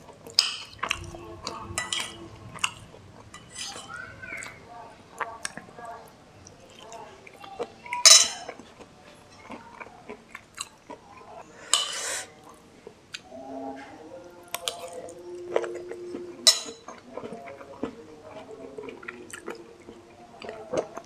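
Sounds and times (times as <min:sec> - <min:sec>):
chewing crispy fried food: 0:00.0 - 0:11.6, 0:14.3 - 0:21.0.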